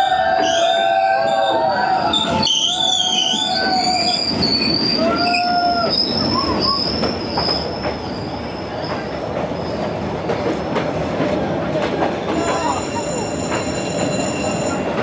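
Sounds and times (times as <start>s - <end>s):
train wheels squealing on rails: 0.0s - 10.1s, 12.2s - 15.0s
train carriages rumbling: 0.0s - 15.0s.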